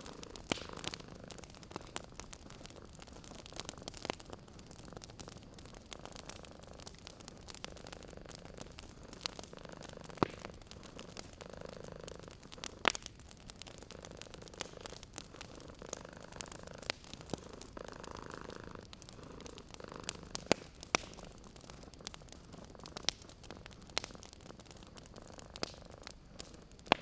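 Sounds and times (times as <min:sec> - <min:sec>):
cat purring: 0:00.0 - 0:27.0
wood fire crackling and popping: 0:00.0 - 0:27.0.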